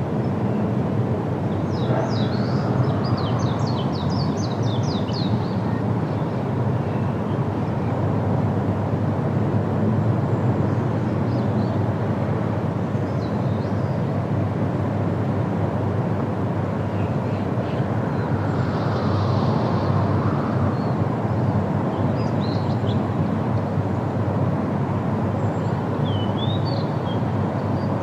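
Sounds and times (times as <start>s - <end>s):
wind rushing through trees: 0.0s - 28.0s.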